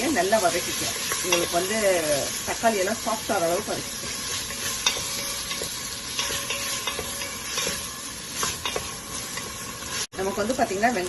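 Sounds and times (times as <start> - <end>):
onions and tomatoes sizzling in oil: 0.0 - 11.0.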